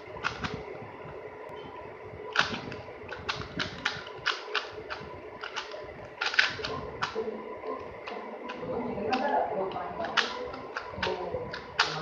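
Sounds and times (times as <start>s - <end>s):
puzzle cube clacking: 0.0s - 0.6s, 2.4s - 12.0s.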